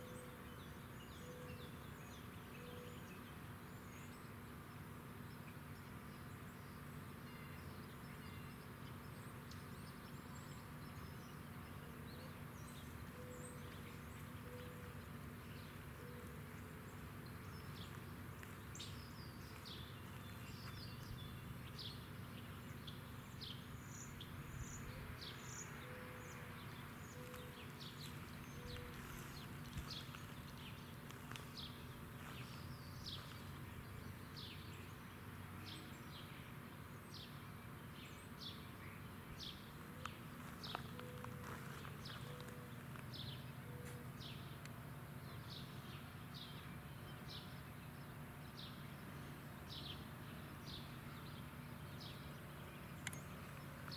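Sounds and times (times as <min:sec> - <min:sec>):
low steady bird calls: 0:00.0 - 0:53.9
small birds chirping: 0:05.2 - 0:53.9.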